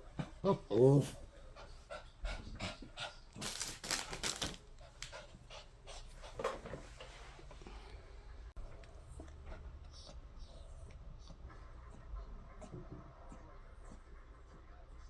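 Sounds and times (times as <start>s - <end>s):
dog panting: 0.0s - 7.8s, 8.6s - 15.0s.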